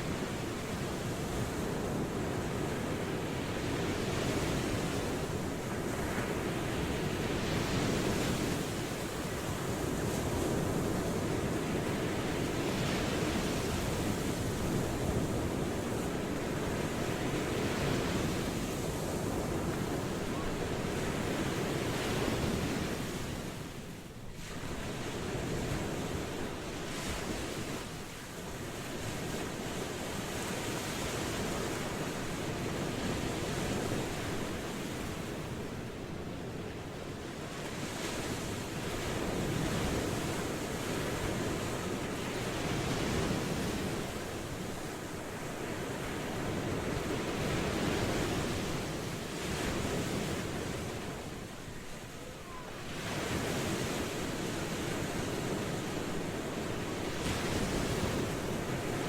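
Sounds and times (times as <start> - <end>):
ocean waves surf: 0.0 - 59.0.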